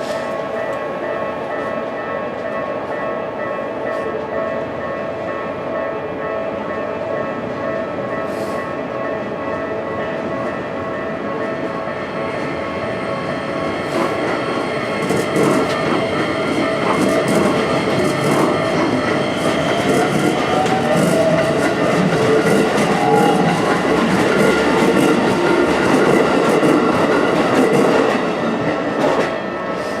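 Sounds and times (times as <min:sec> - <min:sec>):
electric train running past: 0:00.0 - 0:30.0
train whine: 0:00.0 - 0:30.0.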